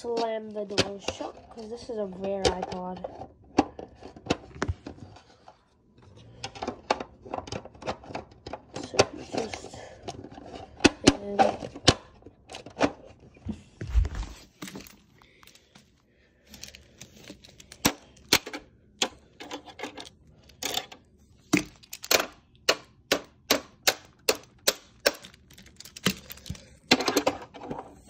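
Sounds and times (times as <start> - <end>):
plastic toys clicking and tapping: 0.0 - 5.0, 6.3 - 13.0, 16.5 - 28.0
plastic toys clattering: 0.0 - 13.2, 14.3 - 28.0.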